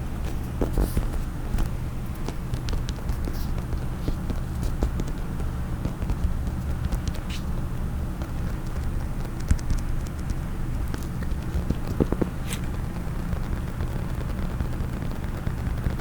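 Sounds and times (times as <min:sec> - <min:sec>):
fingers tapping and scratching case: 0:00.5 - 0:16.0.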